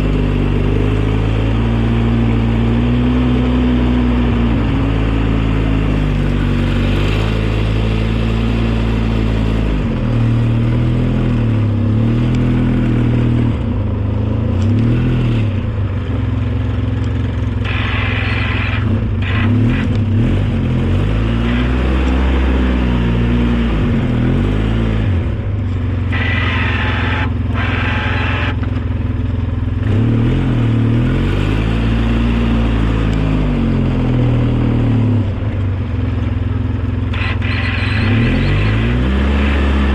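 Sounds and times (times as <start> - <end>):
snowplow engine under load: 0.0 - 39.9.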